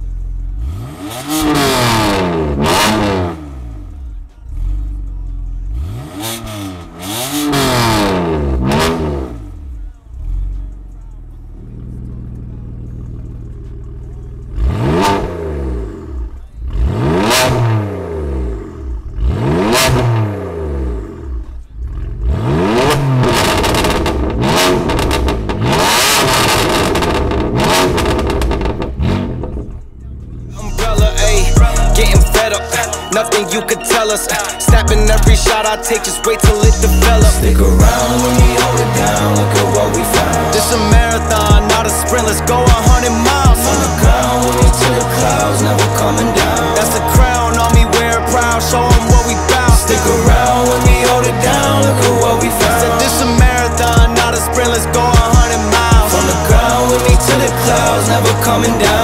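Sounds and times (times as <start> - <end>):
car engine idling: 0.0 - 59.0
car engine revving: 0.0 - 59.0.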